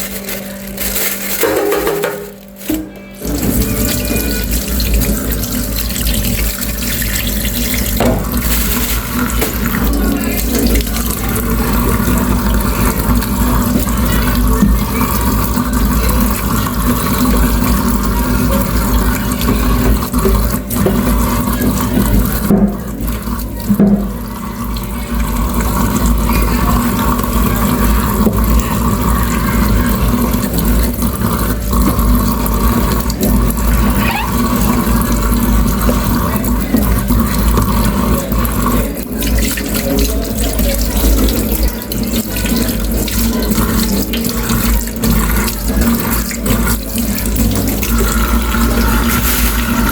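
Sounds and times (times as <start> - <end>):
tap water running into sink: 0.0 - 49.9.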